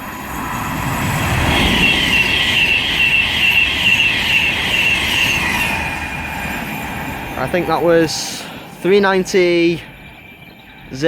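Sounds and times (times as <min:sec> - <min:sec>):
electric train passing: 0:00.0 - 0:11.0
high wavering whine: 0:00.0 - 0:11.0.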